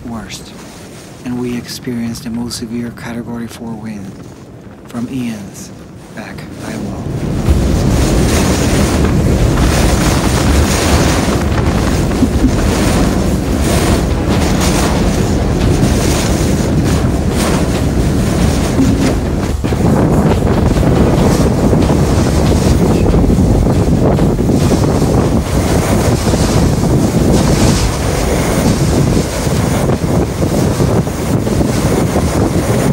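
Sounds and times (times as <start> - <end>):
wind buffeting microphone: 0.0 - 32.9
driving rain: 3.7 - 32.9.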